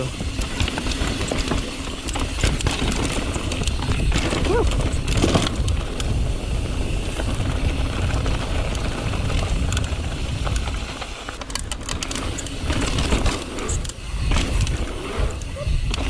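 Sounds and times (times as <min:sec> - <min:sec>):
bike clicks and rattles: 0:00.0 - 0:16.0
bike tyre noise on dirt: 0:00.0 - 0:16.0
wind rumbling on microphone: 0:00.0 - 0:16.0.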